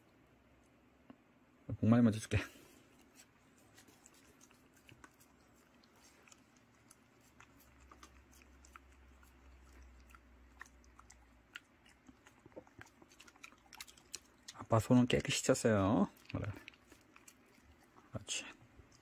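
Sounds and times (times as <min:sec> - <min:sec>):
faint low hum: 0:00.0 - 0:19.0
dog chewing and licking: 0:02.8 - 0:19.0.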